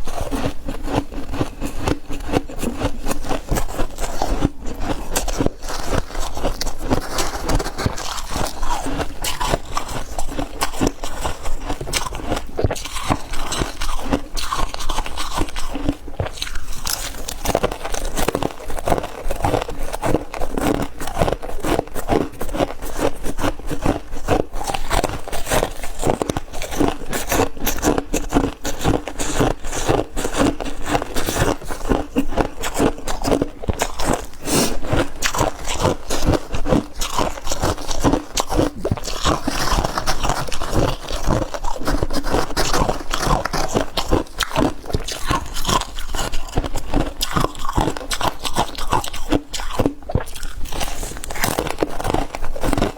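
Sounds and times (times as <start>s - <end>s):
person chewing ice crunches: 0.0s - 52.9s.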